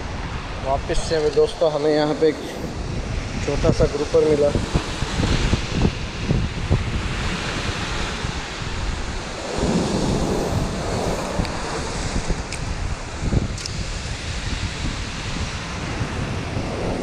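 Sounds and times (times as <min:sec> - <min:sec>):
wind buffeting microphone: 0:00.0 - 0:17.0
surf washing against rocks: 0:01.1 - 0:16.9.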